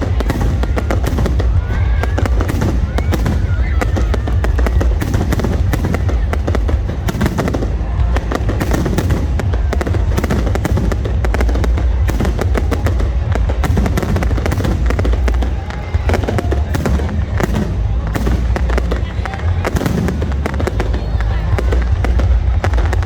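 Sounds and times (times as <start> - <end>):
firework bangs and crackles: 0.0 - 23.0.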